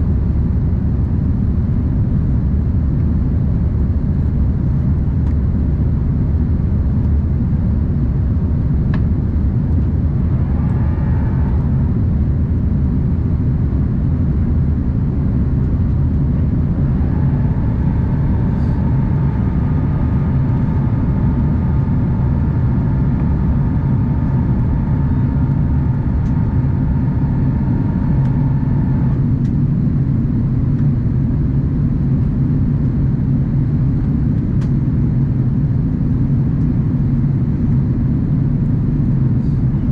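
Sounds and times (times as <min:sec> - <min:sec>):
airplane cabin rumble: 0:00.0 - 0:39.9
faint multi-tone hum: 0:00.0 - 0:39.9.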